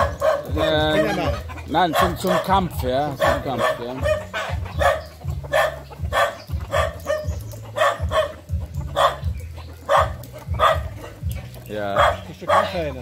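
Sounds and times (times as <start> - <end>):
dog barking: 0.0 - 11.2, 12.0 - 12.8.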